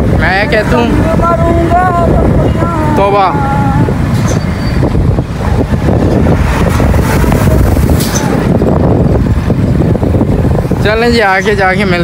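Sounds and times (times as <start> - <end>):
road and traffic noise: 0.0 - 12.0
wind rushing over microphone: 0.0 - 12.0.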